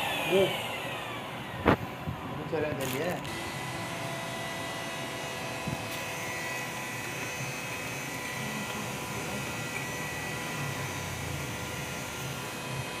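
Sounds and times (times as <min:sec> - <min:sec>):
cnc router running: 0:00.0 - 0:13.0
high machine whine: 0:00.0 - 0:13.0.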